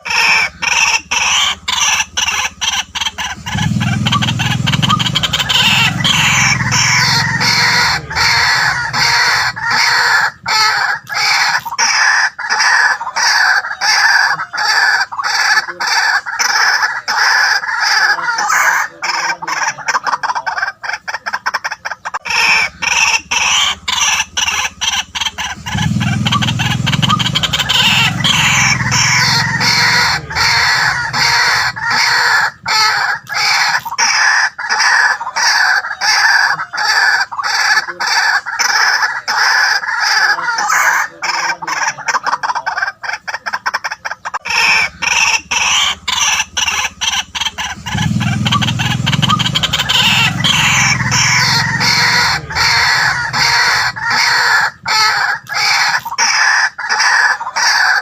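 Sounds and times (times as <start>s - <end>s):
waterhen calling: 0.0s - 58.0s.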